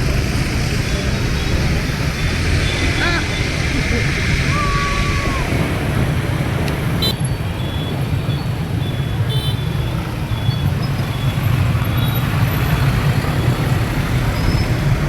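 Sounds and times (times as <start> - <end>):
scooter engine and road rumble: 0.0 - 15.0.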